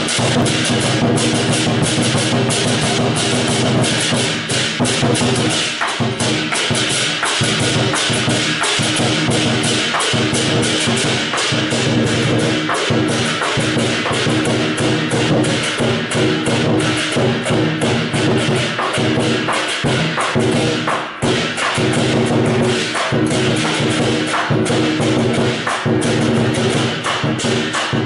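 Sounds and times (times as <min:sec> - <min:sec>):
hand cymbals clashing: 0:00.0 - 0:28.0
large drum beaten with sticks: 0:00.0 - 0:28.0.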